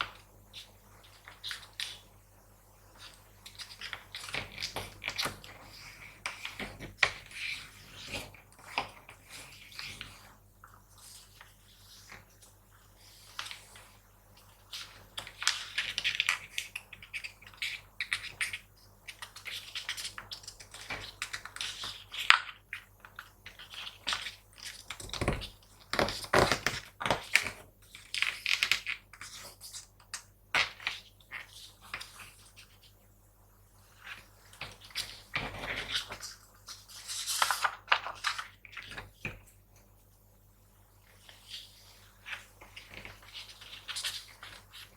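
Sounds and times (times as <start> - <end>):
paper folding and crinkling: 3.0 - 32.9, 33.8 - 39.5, 41.0 - 44.9.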